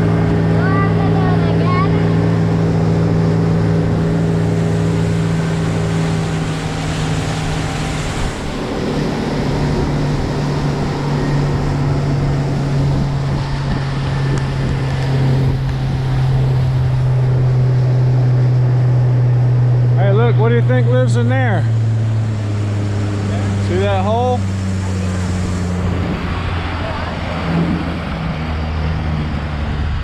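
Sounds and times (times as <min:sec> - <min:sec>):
motorboat engine running: 0:00.0 - 0:30.0
wind and water rushing: 0:00.0 - 0:30.0.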